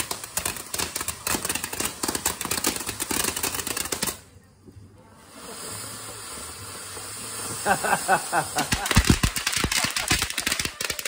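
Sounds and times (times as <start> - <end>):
firework fountain crackling: 0.0 - 4.4, 5.2 - 11.0.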